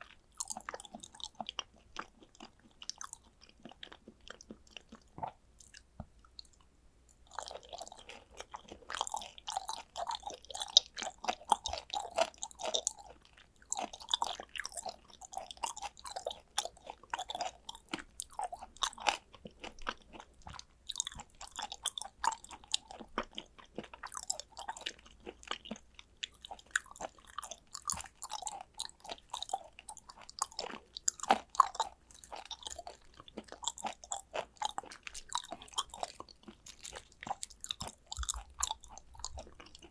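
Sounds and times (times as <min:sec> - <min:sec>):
wet chewing mouth sounds: 0:00.0 - 0:39.9.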